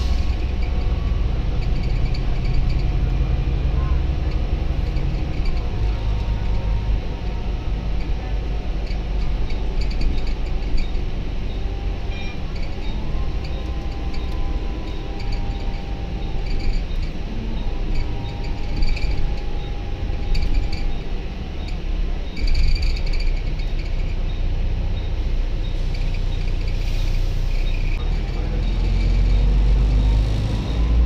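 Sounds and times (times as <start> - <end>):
bus engine rumble with whine: 0.0 - 31.0.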